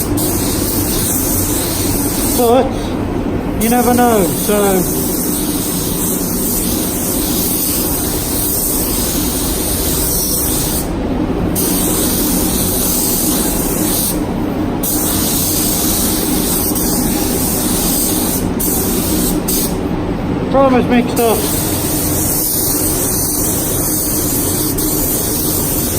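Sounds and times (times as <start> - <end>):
spray gun hissing: 0.0 - 19.9, 20.6 - 25.9.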